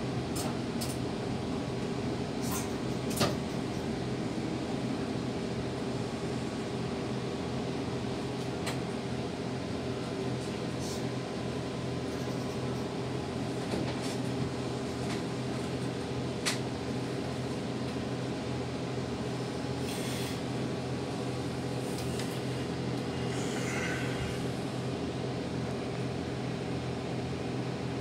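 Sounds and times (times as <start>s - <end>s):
train cab equipment humming: 0.0s - 28.0s.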